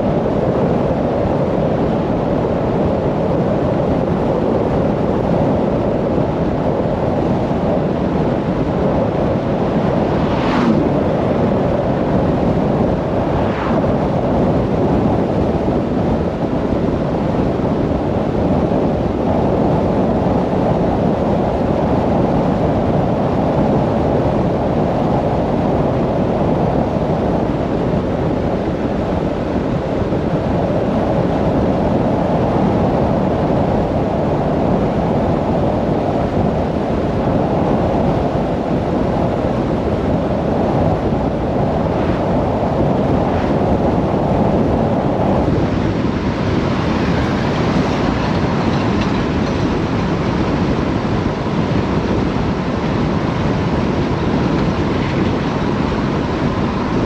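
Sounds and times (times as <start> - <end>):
vehicle running and tyre noise: 0.0 - 57.0
wind rushing over microphone: 0.0 - 57.0.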